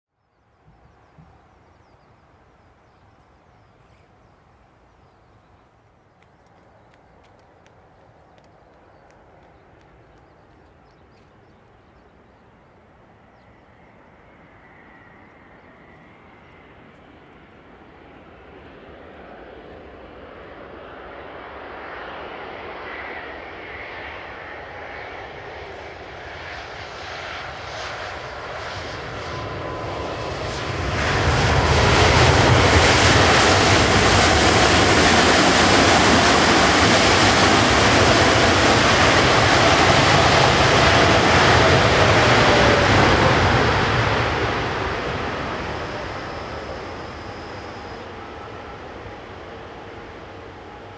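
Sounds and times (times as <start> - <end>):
jet turbofans whining: 0.4 - 50.9.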